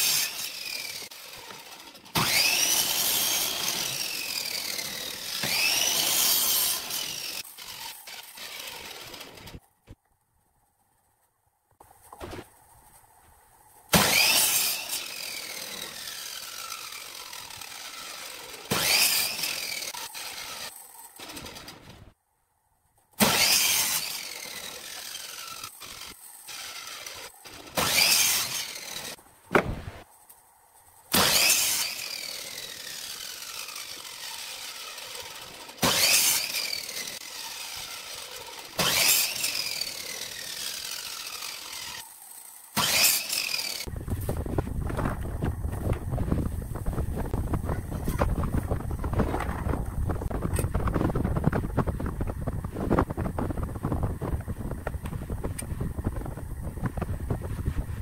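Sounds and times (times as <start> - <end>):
miter saw cutting wood: 0.0 - 9.6, 13.9 - 22.2, 23.2 - 30.0, 31.1 - 57.4
saw blade whine coasting down: 0.0 - 9.6, 13.9 - 22.2, 23.2 - 30.0, 31.1 - 58.0.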